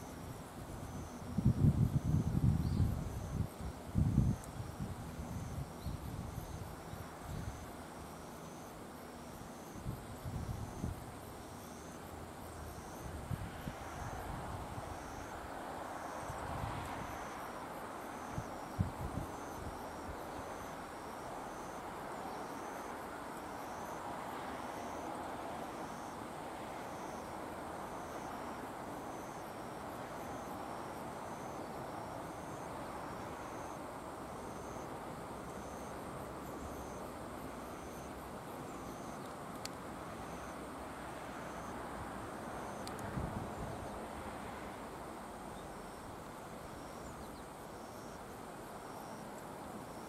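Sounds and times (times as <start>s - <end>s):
insect chirping: 0.0s - 50.0s.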